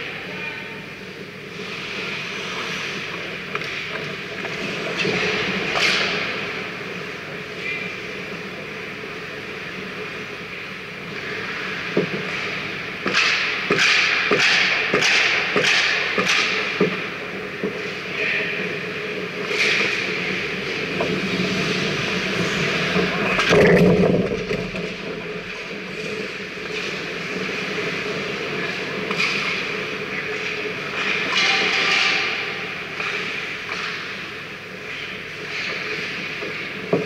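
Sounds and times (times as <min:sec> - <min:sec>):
skates scraping on ice: 0:01.0 - 0:10.4, 0:11.0 - 0:37.0.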